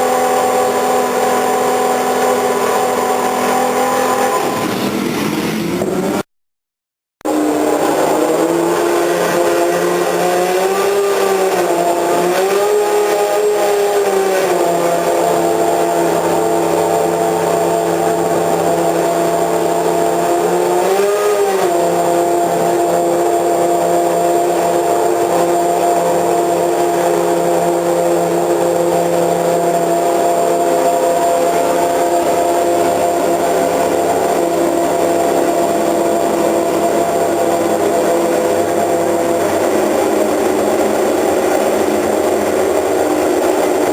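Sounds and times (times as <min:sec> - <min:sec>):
racing car engine high revs: 0:00.0 - 0:06.2, 0:07.3 - 0:43.9.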